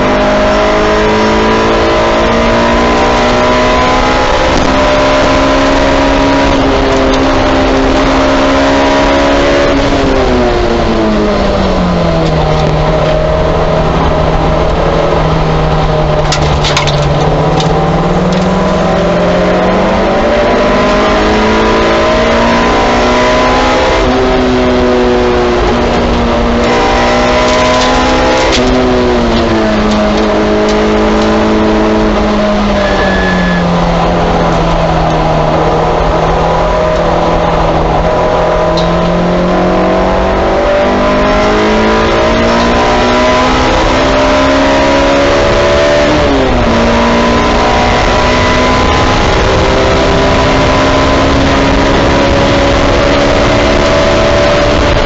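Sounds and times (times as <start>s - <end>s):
race car engine: 0.0s - 55.0s
wind and tyre noise: 0.0s - 55.0s.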